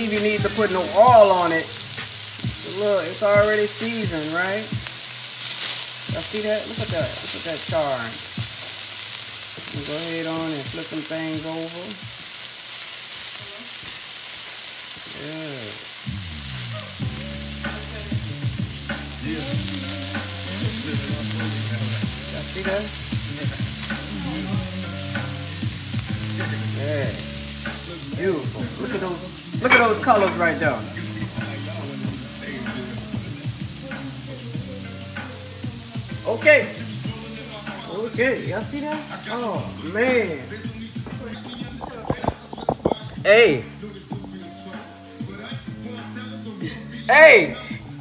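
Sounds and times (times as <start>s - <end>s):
tomatoes sizzling in a grill pan: 0.0s - 48.0s.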